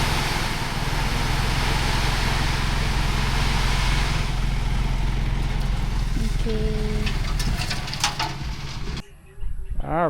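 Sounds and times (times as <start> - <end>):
high rushing noise: 0.0 - 9.0
truck engine running: 0.0 - 9.0.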